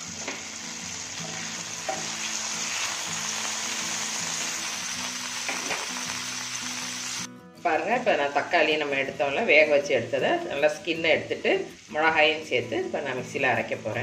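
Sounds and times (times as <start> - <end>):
background music: 0.0 - 14.0
garlic sizzling in hot oil: 0.0 - 14.0.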